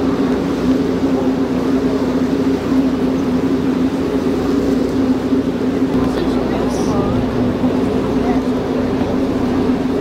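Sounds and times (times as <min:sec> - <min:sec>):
boat engine droning: 0:00.0 - 0:10.0
water noise: 0:00.0 - 0:10.0.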